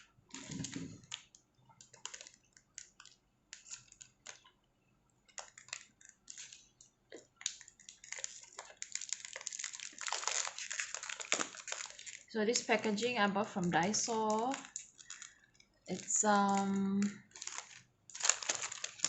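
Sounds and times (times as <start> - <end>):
packaging rustling and crinkling: 0.0 - 4.6, 5.3 - 19.0.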